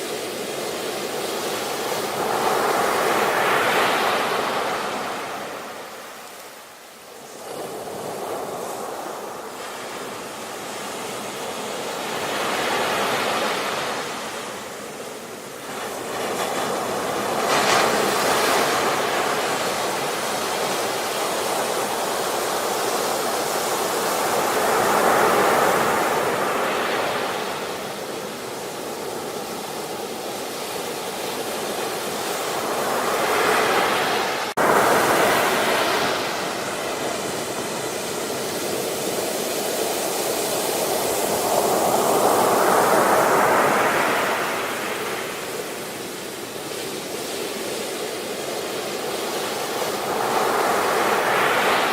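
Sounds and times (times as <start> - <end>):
ocean waves breaking: 0.0 - 51.9.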